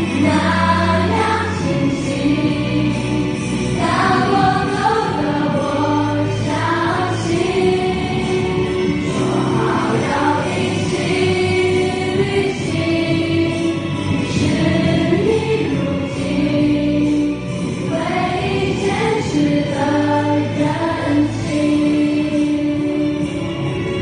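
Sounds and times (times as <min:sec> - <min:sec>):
pop backing music: 0:00.0 - 0:24.0.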